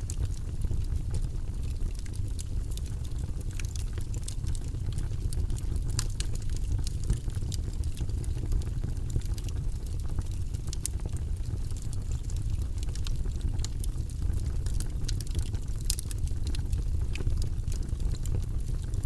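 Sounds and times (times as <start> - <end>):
burning logs crackling and popping: 0.0 - 19.0
fire rumbling: 0.0 - 19.0.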